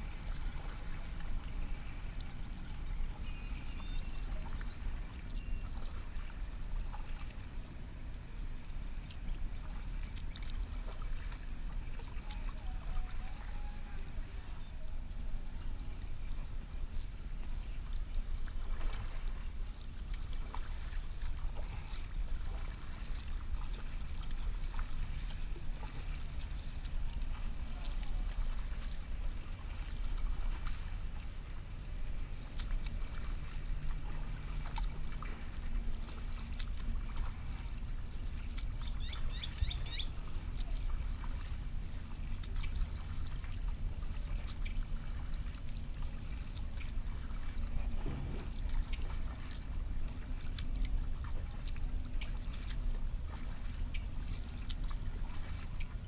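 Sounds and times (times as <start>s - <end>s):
kayak paddle dipping in water: 0.0s - 56.0s
steady low rumble: 0.0s - 56.0s.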